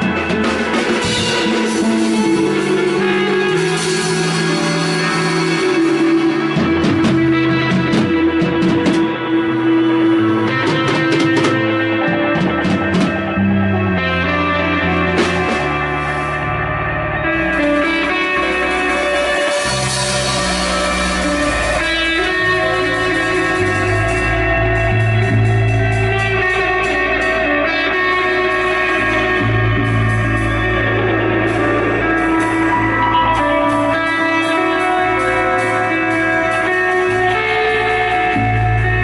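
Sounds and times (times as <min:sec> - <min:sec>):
bass line: 0:00.0 - 0:39.0
electric guitar lines: 0:00.0 - 0:39.0.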